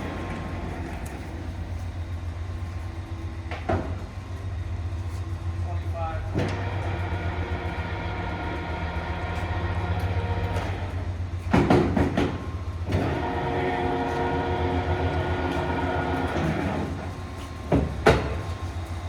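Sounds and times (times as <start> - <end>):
lathe humming with gear whine: 0.0 - 3.6, 4.2 - 11.4, 12.6 - 19.0.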